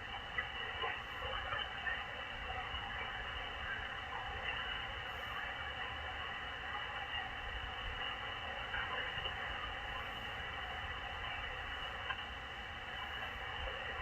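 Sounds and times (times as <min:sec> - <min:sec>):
radio band noise hiss: 0:00.0 - 0:14.0.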